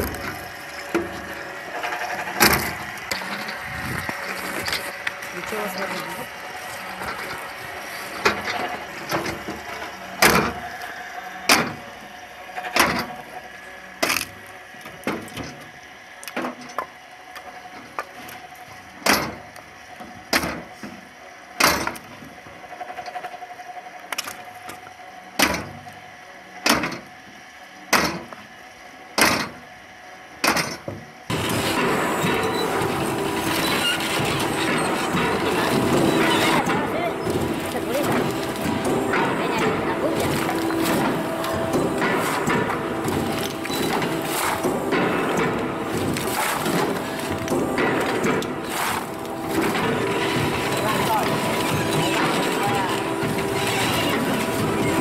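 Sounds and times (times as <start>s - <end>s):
log splitter humming: 0.0s - 22.3s, 31.3s - 55.0s
loud steady machine noise: 0.0s - 55.0s.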